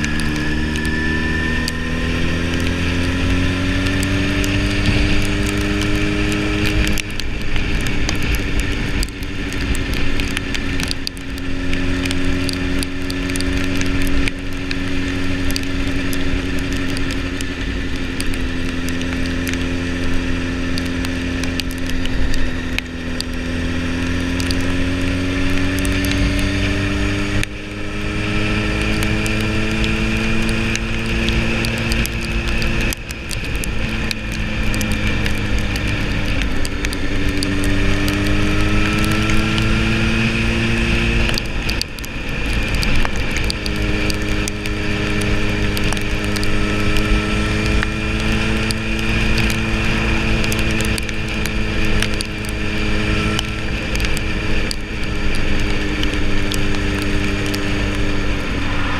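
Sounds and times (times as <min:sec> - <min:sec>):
motorcycle engine changing gears: 0:00.0 - 0:58.9
wind noise: 0:00.0 - 0:58.9.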